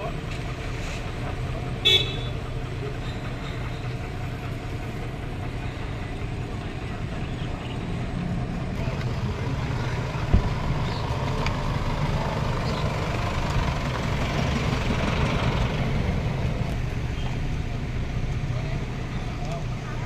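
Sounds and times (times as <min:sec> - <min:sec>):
motor vehicle engine rumbling: 0:00.0 - 0:20.0.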